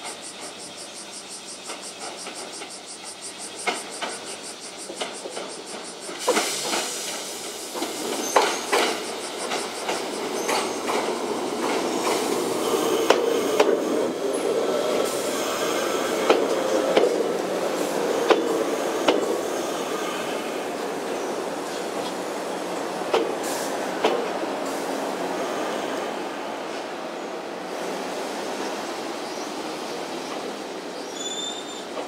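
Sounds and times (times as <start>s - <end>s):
electric train running past: 0.0s - 32.0s.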